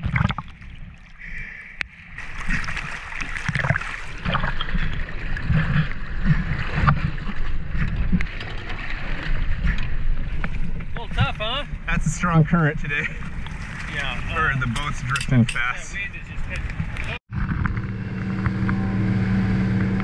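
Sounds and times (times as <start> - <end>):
water splashing and gurgling: 0.0 - 20.0
waves and wind rumble: 0.0 - 20.0.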